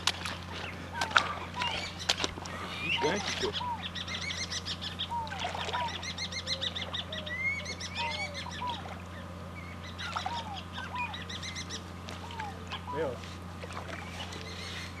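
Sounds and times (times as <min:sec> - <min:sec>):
steady low hum: 0:00.0 - 0:15.0
birds chattering: 0:00.2 - 0:15.0
birds honking: 0:00.4 - 0:15.0.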